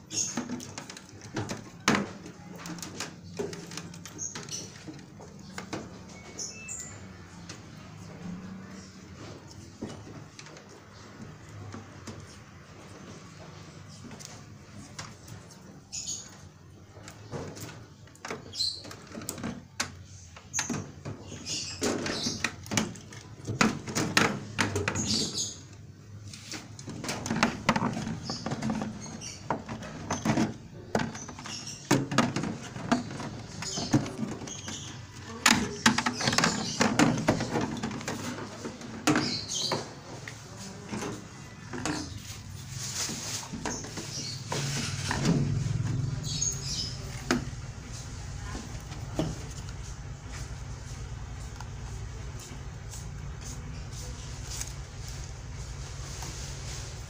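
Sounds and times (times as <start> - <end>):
hands working on dryer panel: 7.3 - 57.0.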